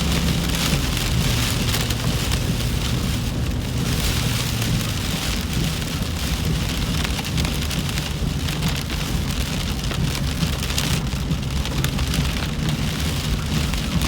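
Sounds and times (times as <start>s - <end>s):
car engine and tyres drone: 0.0s - 14.0s
heavy rain on car roof: 0.0s - 14.0s.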